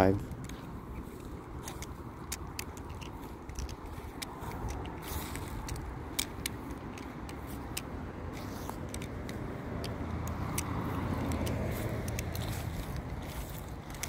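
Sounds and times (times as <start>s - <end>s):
butterfly knife metallic clicks: 0.4s - 14.0s.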